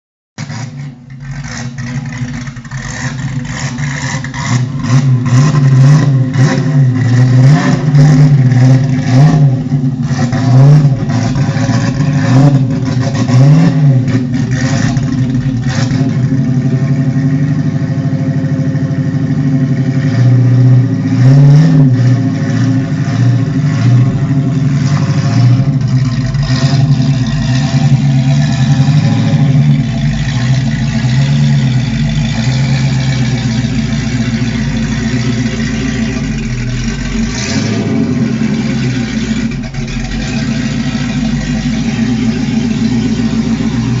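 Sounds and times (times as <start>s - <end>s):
car engine revving and idling: 0.4s - 44.0s.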